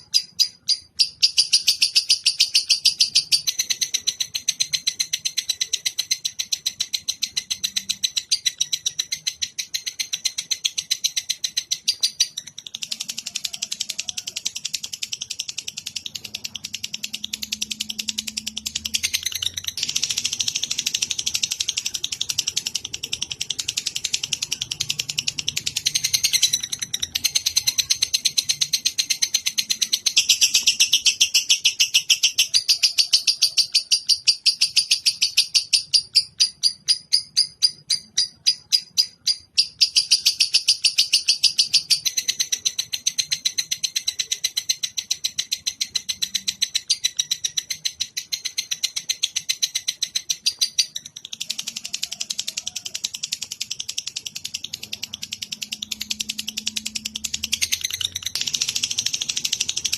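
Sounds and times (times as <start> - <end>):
songbird chattering trill: 0.0 - 59.9.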